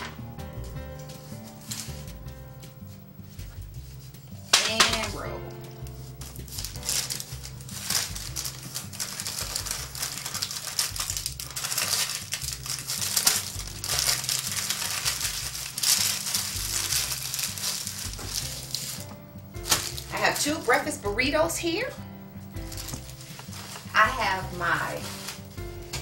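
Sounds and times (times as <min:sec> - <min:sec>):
wax paper crinkling: 0:00.0 - 0:26.0.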